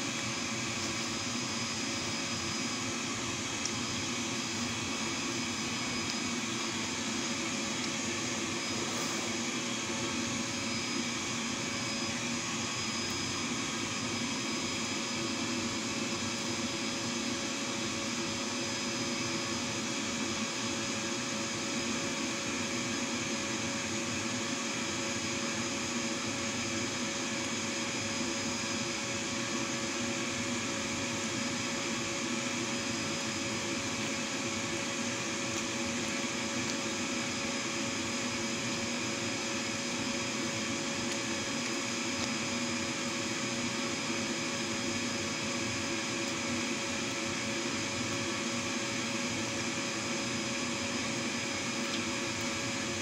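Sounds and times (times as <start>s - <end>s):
mechanical hum and hiss: 0.0s - 53.0s.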